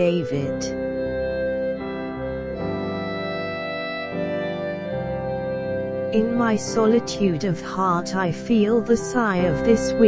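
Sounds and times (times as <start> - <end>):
held keyboard chords: 0.0 - 10.0.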